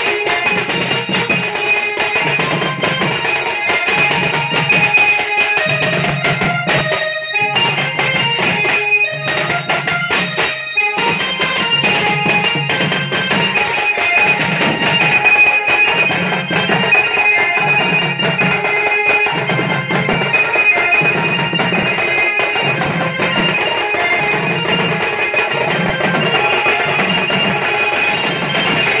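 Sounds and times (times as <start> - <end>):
barrel drums beating: 0.0 - 29.0.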